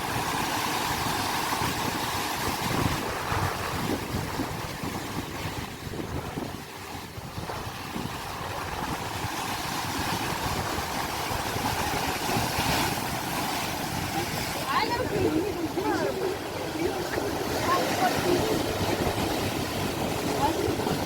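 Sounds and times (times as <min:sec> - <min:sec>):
sea water rushing: 0:00.0 - 0:21.0
wind rushing: 0:01.6 - 0:21.0.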